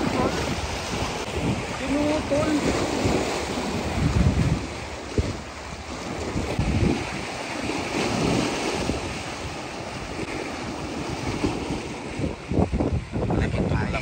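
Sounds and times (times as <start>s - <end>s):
waves washing against rocks: 0.0s - 14.0s
wind buffeting the microphone: 0.0s - 14.0s.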